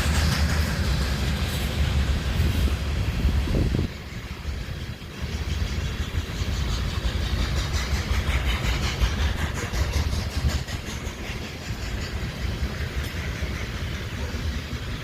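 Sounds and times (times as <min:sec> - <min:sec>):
train rumbling by: 0:00.0 - 0:15.0
train wheels clattering: 0:00.0 - 0:15.0.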